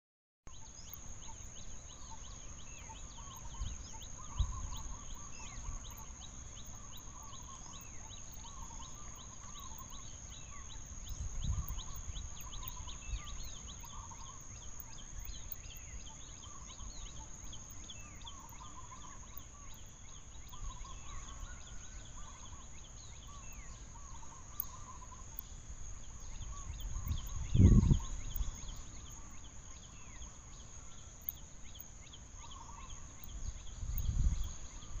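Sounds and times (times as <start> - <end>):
steady high-pitched whine: 0.5 - 35.0.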